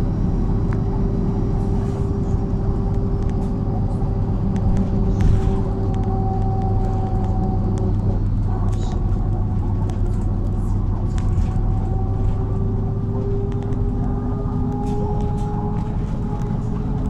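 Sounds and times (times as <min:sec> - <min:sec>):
bus engine and road drone: 0:00.0 - 0:17.0.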